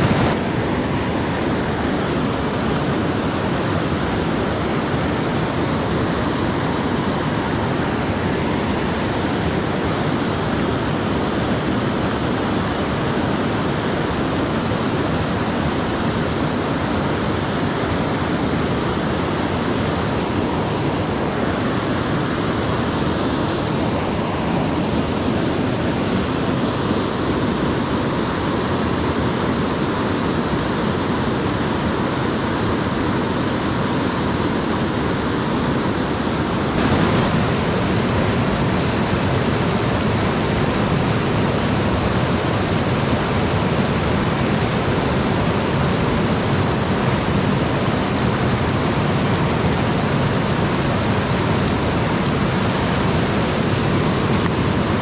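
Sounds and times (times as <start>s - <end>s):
water rushing over rocks: 0.0s - 55.0s.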